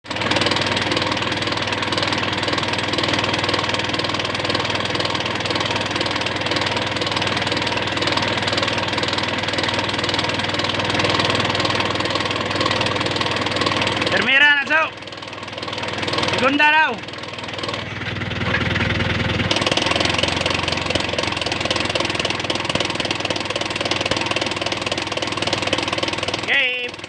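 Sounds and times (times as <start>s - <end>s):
annoying engine noise: 0.0s - 27.0s
truck engine running: 0.0s - 27.0s.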